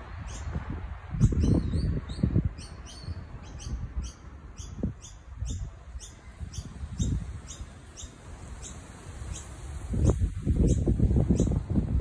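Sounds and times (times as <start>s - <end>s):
bird chirping: 1.2s - 11.6s.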